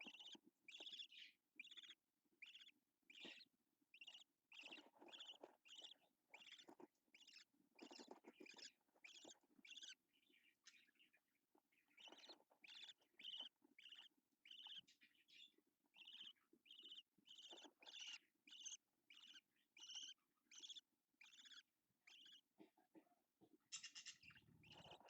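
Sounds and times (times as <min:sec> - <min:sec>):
budgerigar chirping: 0:00.0 - 0:22.6, 0:23.6 - 0:25.0.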